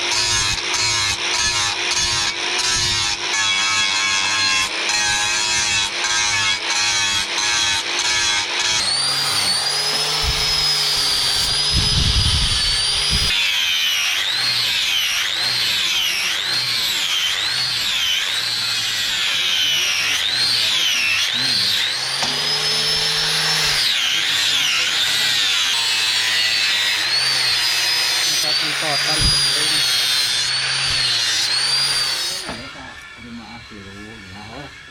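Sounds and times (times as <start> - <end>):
electric power tool whining: 0.0 - 34.9.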